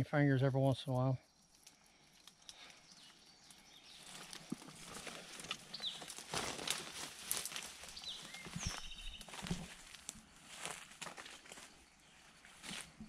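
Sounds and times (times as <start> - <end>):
leaves and twigs rustling: 1.3 - 13.0.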